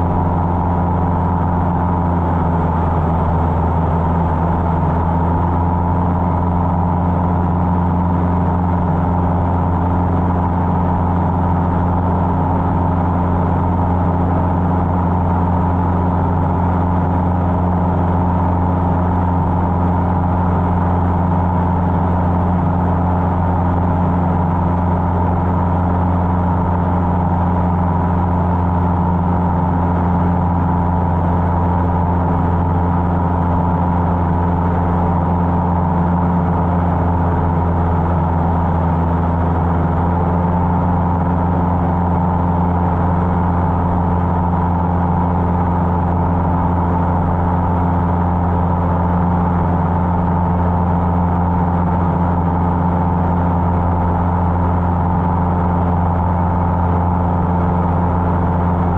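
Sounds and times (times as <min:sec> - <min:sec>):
light aircraft engine droning: 0:00.0 - 0:58.9.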